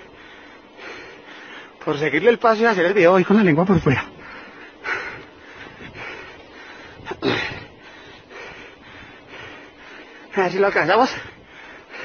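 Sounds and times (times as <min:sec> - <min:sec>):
heavy breathing: 0:00.0 - 0:01.8, 0:04.0 - 0:12.0
steady rushing noise: 0:00.0 - 0:12.0.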